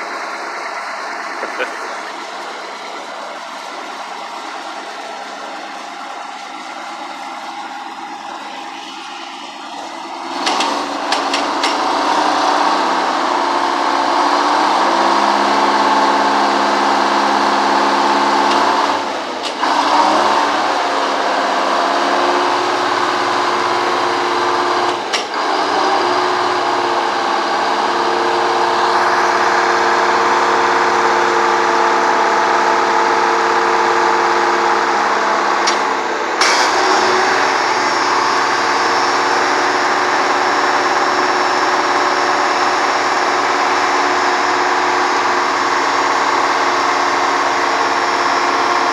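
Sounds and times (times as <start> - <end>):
diesel engine running hard: 0.0 - 48.9.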